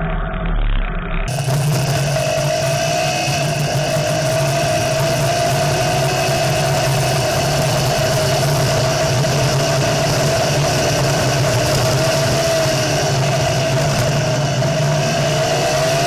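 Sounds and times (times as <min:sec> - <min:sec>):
buggy engine running: 0:00.0 - 0:16.0
wind and road noise: 0:01.3 - 0:16.0.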